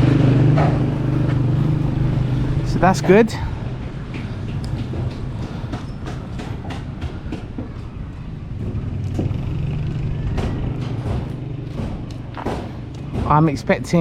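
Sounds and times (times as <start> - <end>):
engine running with low drone: 0.0 - 13.3.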